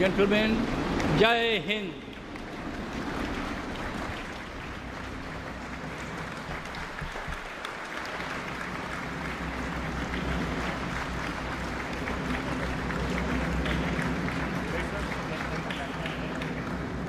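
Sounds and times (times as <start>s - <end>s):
large crowd applauding: 0.0s - 17.0s.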